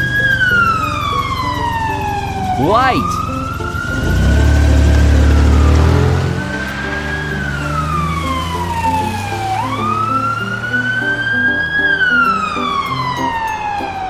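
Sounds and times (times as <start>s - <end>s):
ambulance siren wailing: 0.0s - 14.0s
light background music: 0.0s - 14.0s.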